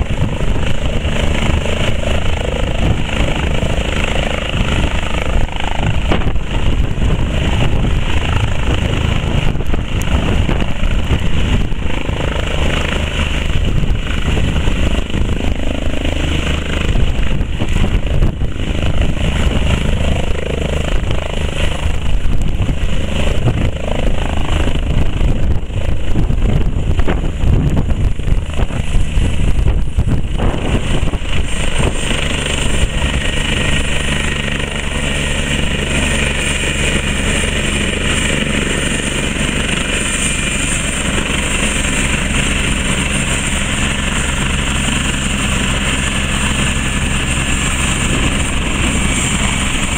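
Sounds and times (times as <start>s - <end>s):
helicopter engine and rotor: 0.0s - 49.9s.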